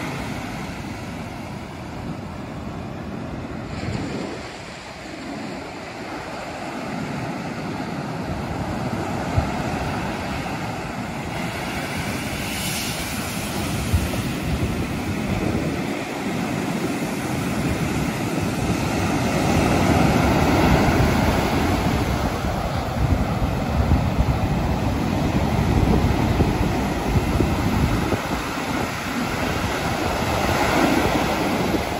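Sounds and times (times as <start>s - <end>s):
surf washing up beach: 0.0s - 31.9s
wind buffeting microphone: 0.0s - 31.9s.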